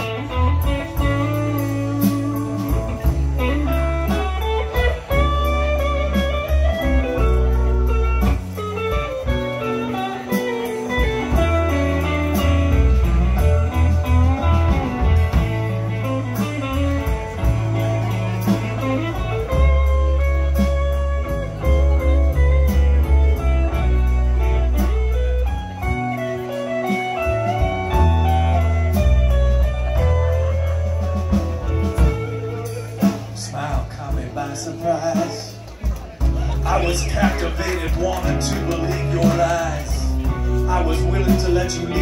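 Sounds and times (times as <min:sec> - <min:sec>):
bass and drums: 0:00.0 - 0:42.0
electric guitar: 0:00.0 - 0:42.0.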